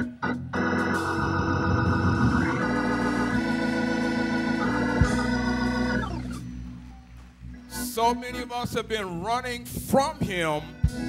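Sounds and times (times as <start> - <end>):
organ sustained chords: 0.0 - 11.0.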